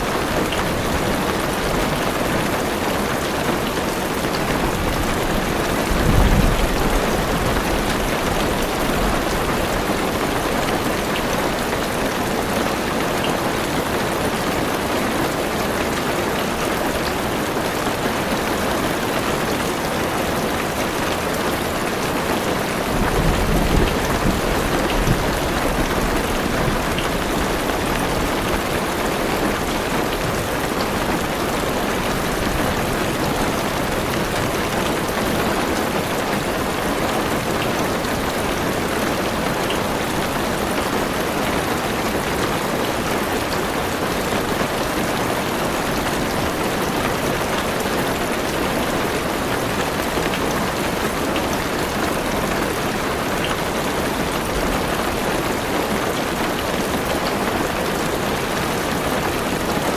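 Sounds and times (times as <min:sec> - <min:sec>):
rain drumming on car roof: 0:00.1 - 0:59.9.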